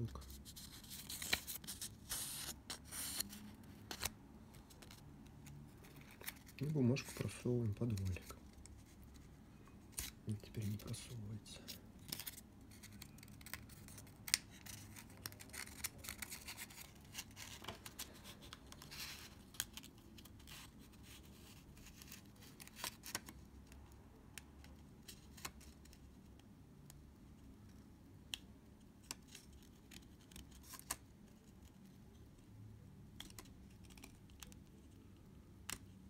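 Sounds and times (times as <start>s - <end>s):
small clicks and scratches: 0.0s - 36.0s.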